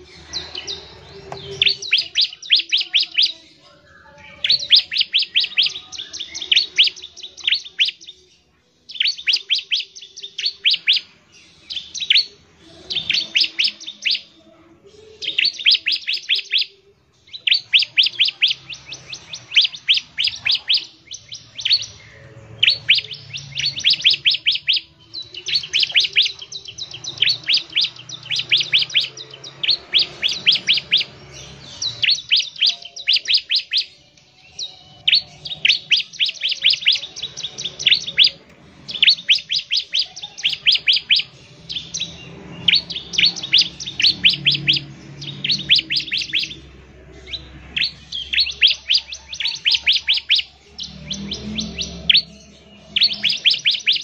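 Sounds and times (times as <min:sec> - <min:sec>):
bird singing high sharp notes: 0:00.0 - 0:54.0.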